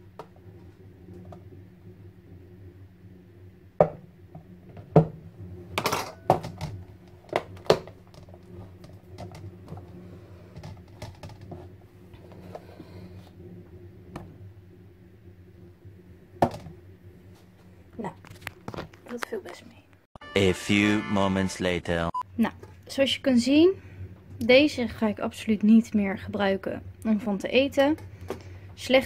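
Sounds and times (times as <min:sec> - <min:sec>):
cooker hood fan hum: 0:00.0 - 0:18.7, 0:22.3 - 0:29.0.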